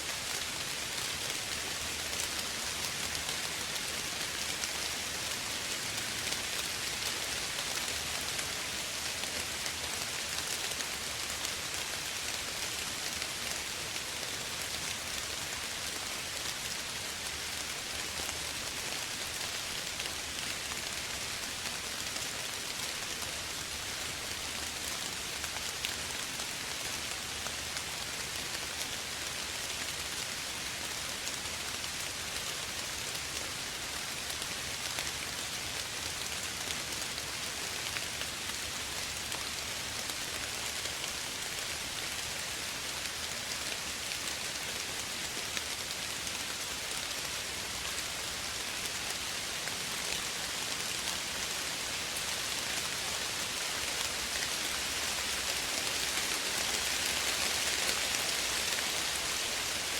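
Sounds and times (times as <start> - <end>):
soft rain pattering: 0.0 - 59.9.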